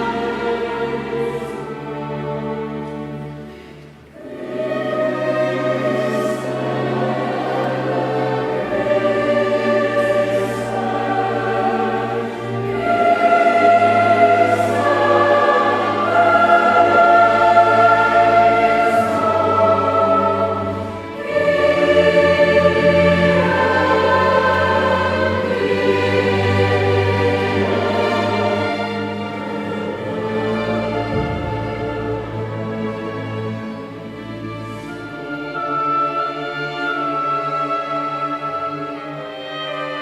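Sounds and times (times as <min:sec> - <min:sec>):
chamber orchestra: 0:00.0 - 0:40.0
mixed choir singing: 0:00.0 - 0:40.0.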